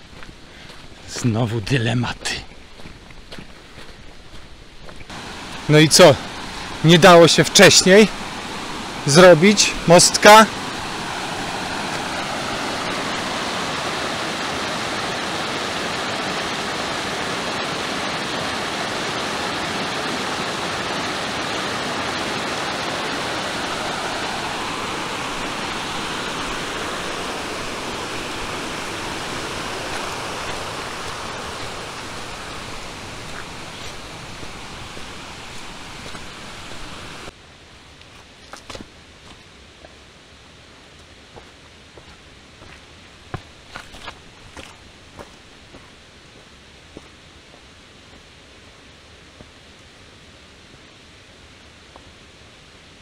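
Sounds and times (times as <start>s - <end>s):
mountain stream rushing: 0.0s - 37.4s, 38.1s - 53.0s.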